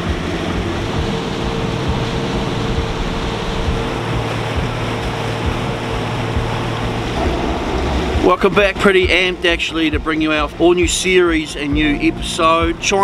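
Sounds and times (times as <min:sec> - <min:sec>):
boat engine hum: 0:00.0 - 0:13.0
water rushing along hull: 0:00.0 - 0:13.0
wind buffeting: 0:00.0 - 0:13.0.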